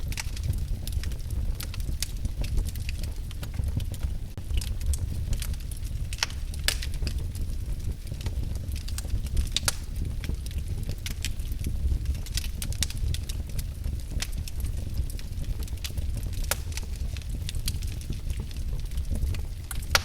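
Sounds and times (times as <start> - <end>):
fire crackling and popping: 0.0 - 20.0
low noise of flames: 0.0 - 20.0.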